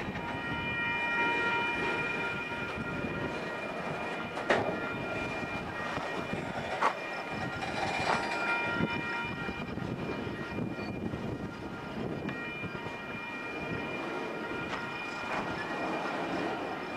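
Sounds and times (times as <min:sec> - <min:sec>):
high ringing: 0:00.0 - 0:16.9
train wheels rumbling on rail: 0:00.0 - 0:16.9.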